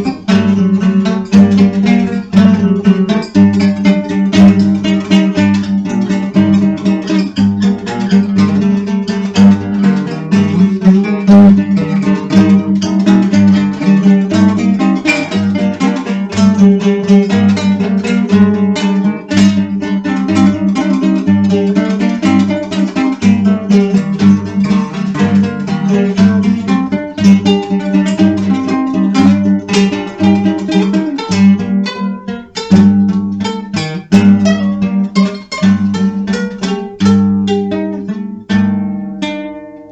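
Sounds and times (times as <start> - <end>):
plucked acoustic guitar: 0.0 - 39.9.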